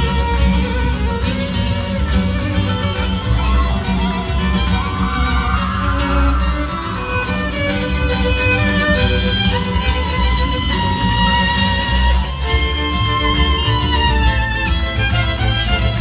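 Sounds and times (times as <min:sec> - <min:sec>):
flamenco-style music: 0:00.0 - 0:16.0
violin melody: 0:00.0 - 0:16.0.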